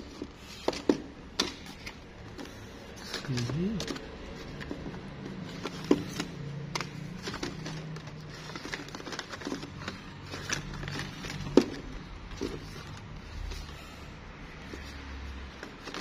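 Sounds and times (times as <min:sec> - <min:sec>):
cardboard cards shuffled: 0:00.0 - 0:13.9.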